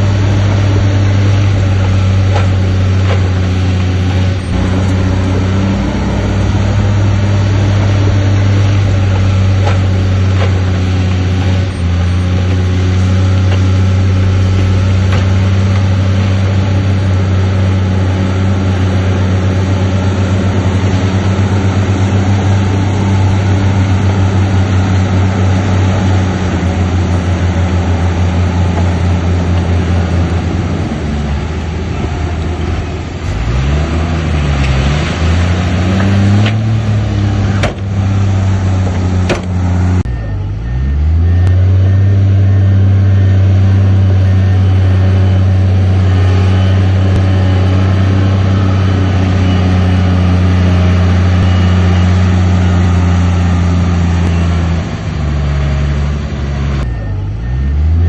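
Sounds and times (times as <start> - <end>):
heavy machine diesel engine running: 0.0 - 58.0.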